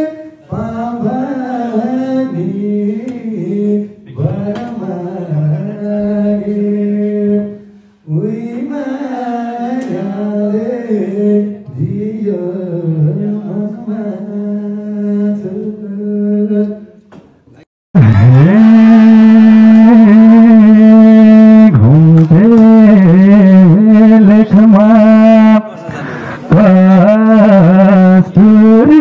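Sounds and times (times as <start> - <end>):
man singing unaccompanied: 0.0 - 17.0, 18.0 - 25.8, 26.5 - 29.0.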